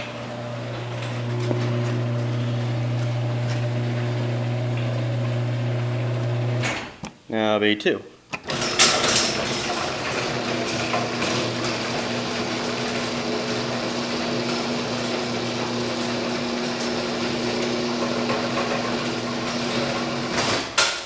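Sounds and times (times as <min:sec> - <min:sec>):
garage door clunk: 0:00.0 - 0:07.0, 0:08.4 - 0:21.0
garage door opener motor humming: 0:00.0 - 0:07.0, 0:08.4 - 0:21.0.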